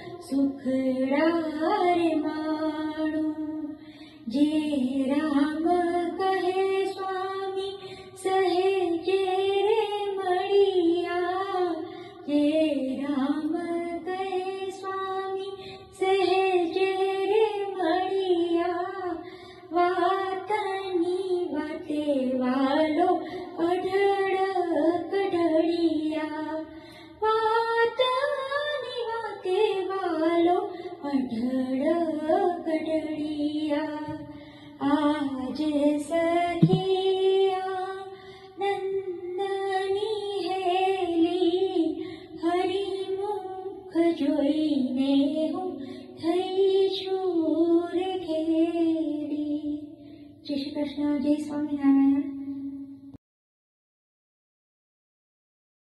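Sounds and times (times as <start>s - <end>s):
woman singing devotional song: 0.0s - 53.2s.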